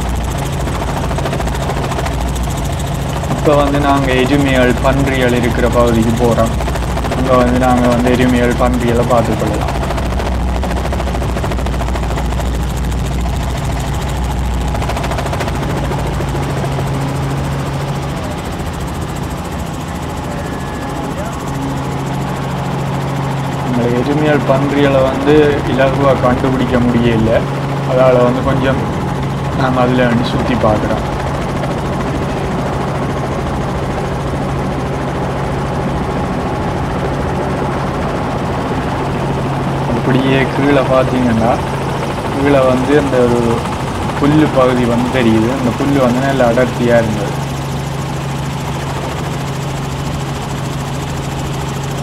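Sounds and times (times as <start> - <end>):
helicopter rotor and engine drone: 0.0 - 52.0.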